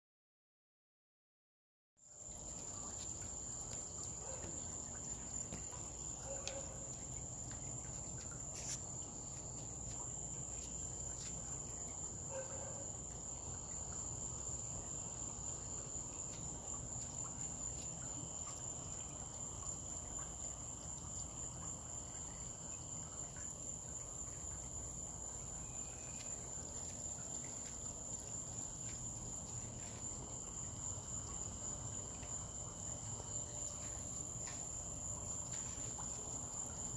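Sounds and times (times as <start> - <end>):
insects trilling: 2.0 - 36.9.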